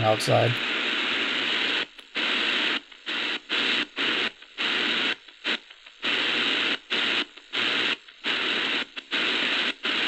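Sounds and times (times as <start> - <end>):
shortwave radio static: 0.0 - 10.0.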